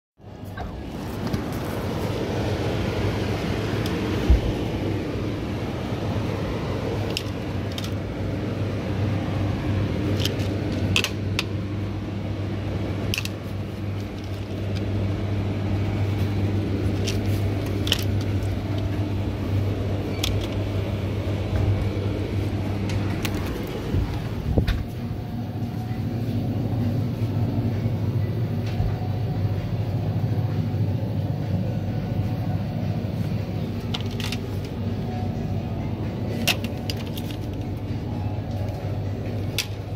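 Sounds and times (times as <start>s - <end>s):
cooler fan and compressor hum: 0.2s - 39.9s.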